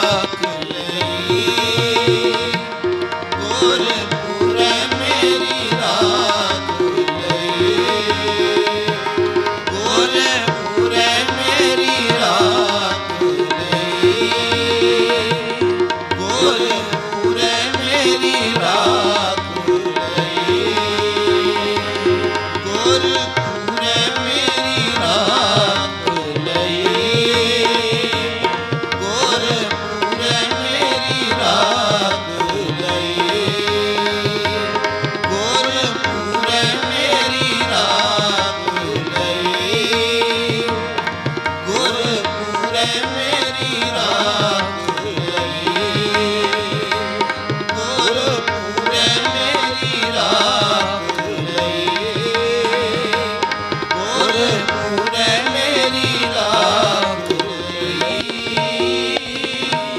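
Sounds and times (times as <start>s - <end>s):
harmonium chords and melody: 0.0s - 59.9s
tabla drum rhythm: 0.0s - 59.9s.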